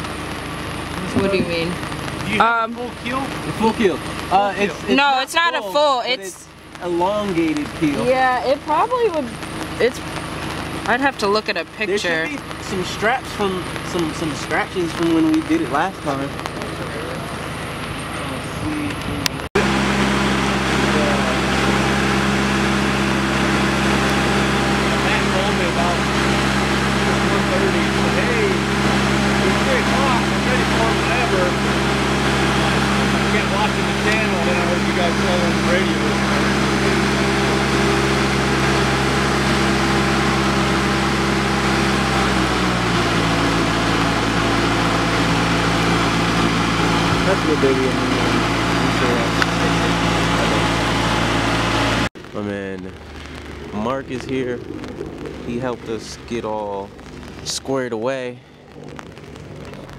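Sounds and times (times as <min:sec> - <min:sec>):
engine running at idle: 0:00.0 - 0:59.9.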